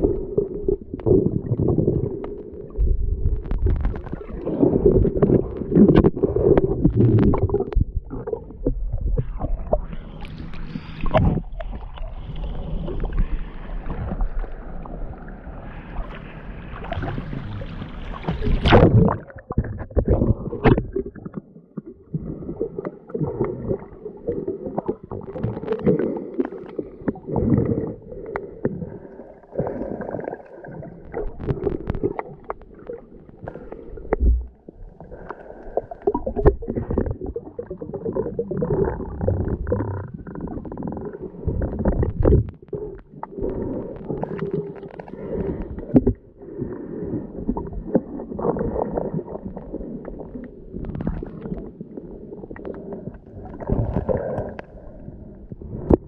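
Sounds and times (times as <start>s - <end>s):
muffled water sloshing: 0.0s - 56.0s.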